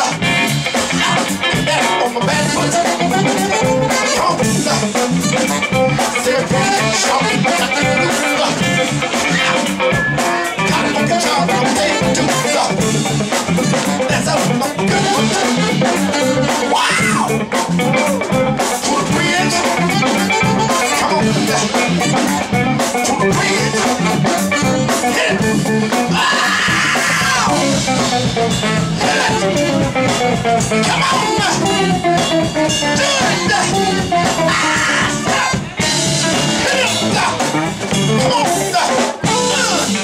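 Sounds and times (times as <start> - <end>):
live band with saxophones: 0.0 - 40.0.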